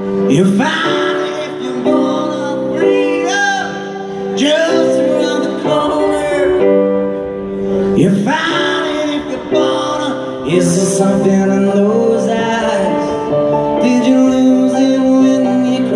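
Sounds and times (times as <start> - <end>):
keyboard chords: 0.0 - 15.9
person singing: 0.0 - 15.9.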